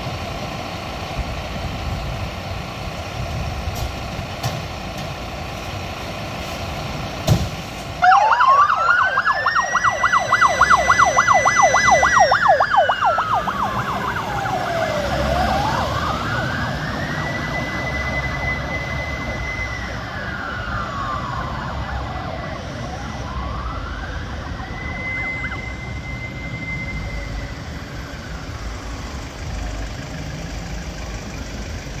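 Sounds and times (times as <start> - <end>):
fire engine siren wailing: 0.0 - 32.0
truck engine running low: 0.0 - 32.0.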